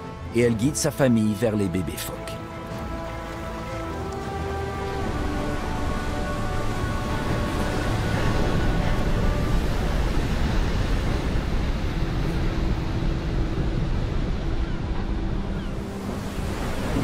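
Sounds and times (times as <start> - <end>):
wind: 0.0 - 17.0
waves crashing on a beach: 2.5 - 17.0.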